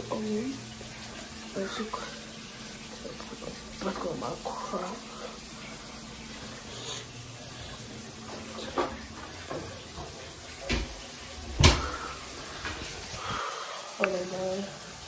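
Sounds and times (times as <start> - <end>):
water running from a tap: 0.0 - 15.0.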